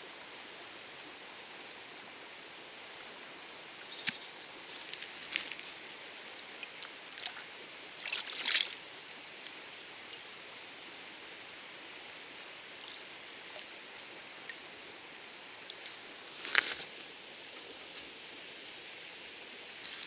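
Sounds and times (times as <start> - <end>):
river running over gravel: 2.4 - 20.0.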